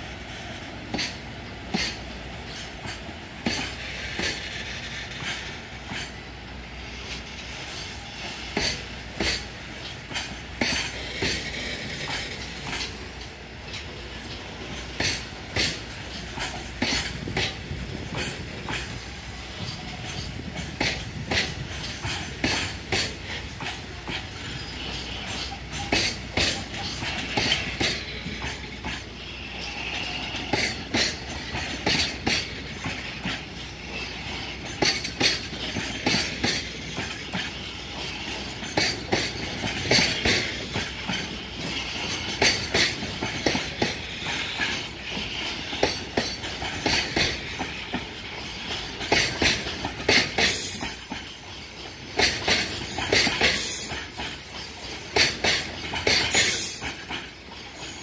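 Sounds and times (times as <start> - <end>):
freight train rumbling: 0.0 - 58.0
wheels clacking on rail joints: 0.2 - 58.0.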